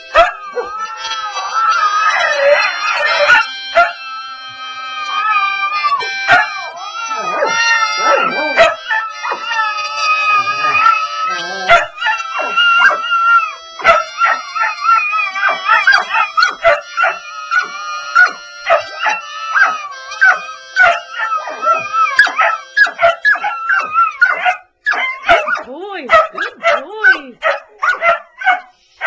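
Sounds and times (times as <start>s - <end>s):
dogs yipping: 0.0s - 4.0s, 5.0s - 29.0s
dogs howling: 0.0s - 4.3s, 4.9s - 28.7s
held musical notes: 0.0s - 24.5s, 25.2s - 27.4s.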